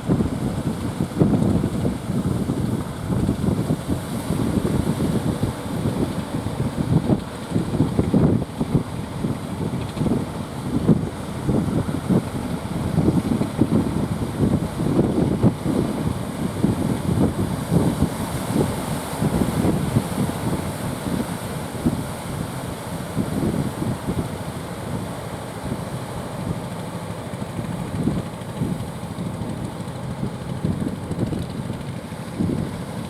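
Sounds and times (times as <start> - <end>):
low steady rumble: 0.0 - 33.0
wind buffeting microphone: 0.0 - 33.0.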